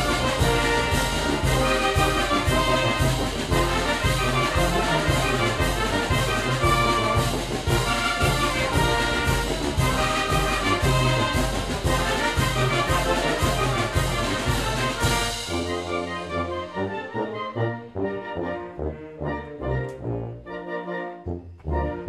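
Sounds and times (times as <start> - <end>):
brass wind band playing: 0.0 - 22.0.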